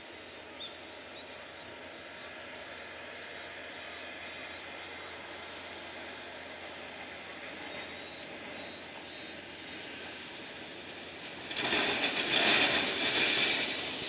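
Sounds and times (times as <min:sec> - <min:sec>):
jet engines on runway: 0:00.0 - 0:14.0.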